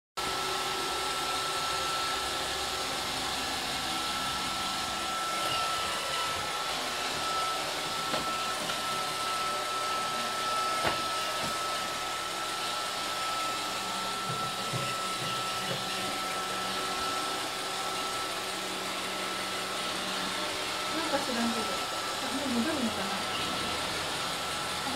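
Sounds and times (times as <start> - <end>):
robot vacuum whirring: 0.2 - 24.9.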